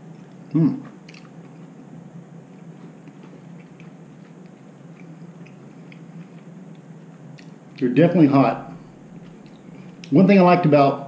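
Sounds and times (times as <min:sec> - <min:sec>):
person chewing: 0:00.0 - 0:07.9, 0:08.7 - 0:10.2
low hum: 0:00.0 - 0:11.0.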